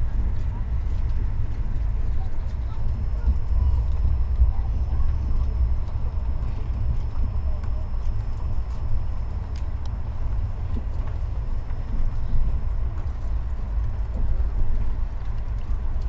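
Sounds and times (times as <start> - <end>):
train rumble inside coach: 0.0 - 16.0.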